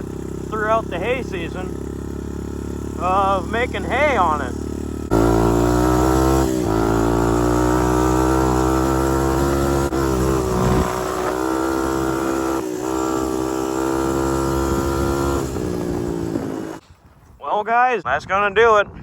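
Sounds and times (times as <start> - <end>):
atv engine running: 0.0 - 16.8.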